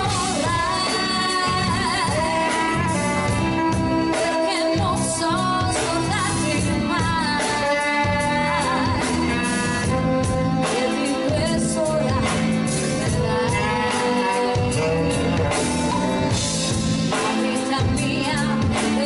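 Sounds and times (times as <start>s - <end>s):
live band playing pop song: 0.0s - 19.0s.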